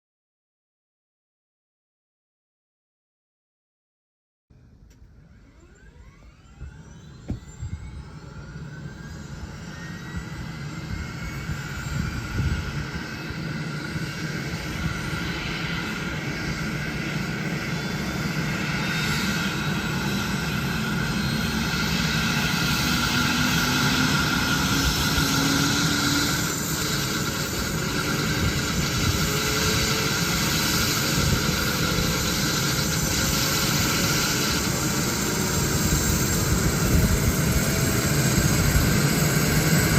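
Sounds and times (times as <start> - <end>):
helicopter turbine engine starting up: 4.6 - 39.9
helicopter rotor: 5.1 - 39.9.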